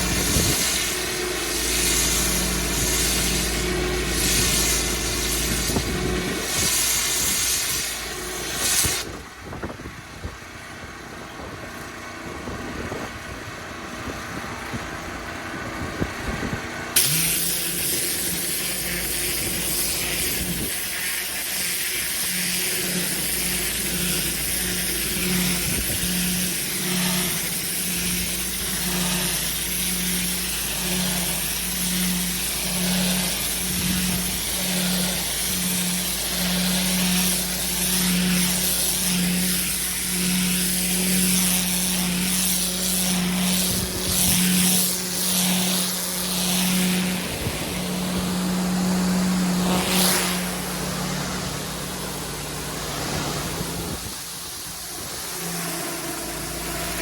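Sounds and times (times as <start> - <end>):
water jet hissing on paving: 0.0 - 9.2, 17.0 - 57.0
pressure washer engine running: 0.0 - 57.0.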